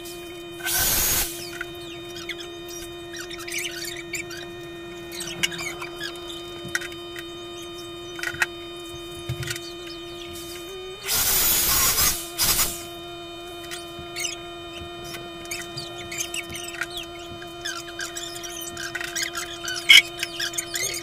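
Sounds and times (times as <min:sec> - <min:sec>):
power drill boring into wall: 0:00.0 - 0:21.0
steady hum: 0:00.0 - 0:21.0.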